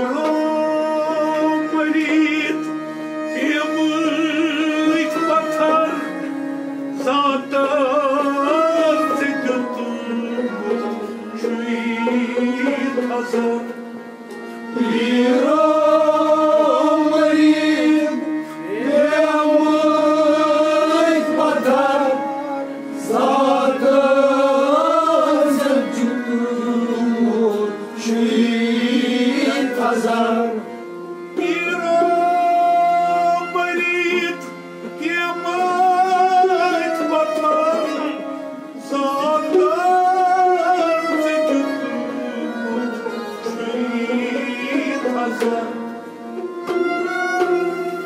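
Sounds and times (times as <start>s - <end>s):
man singing: 0.0s - 13.8s, 14.8s - 30.8s, 31.4s - 46.0s
instrumental accompaniment: 0.0s - 48.0s.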